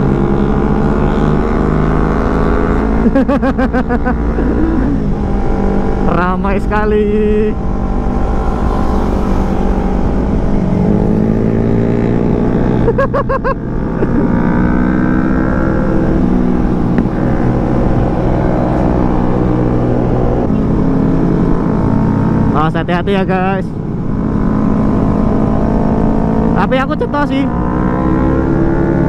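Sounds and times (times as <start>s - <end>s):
motorcycle engine accelerating: 0.0s - 29.0s
wind and road rumble: 0.0s - 29.0s.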